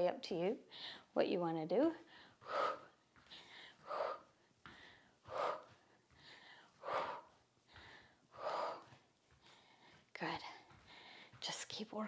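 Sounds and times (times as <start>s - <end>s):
woman breathing heavily: 0.6s - 1.2s, 2.0s - 11.5s.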